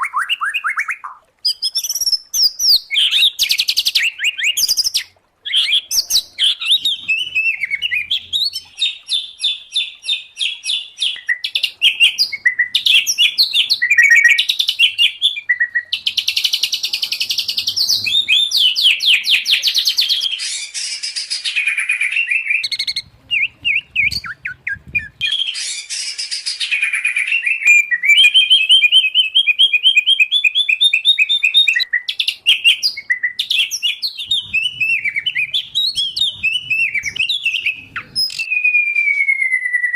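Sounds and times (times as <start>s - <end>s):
songbirds singing: 0.0s - 39.8s.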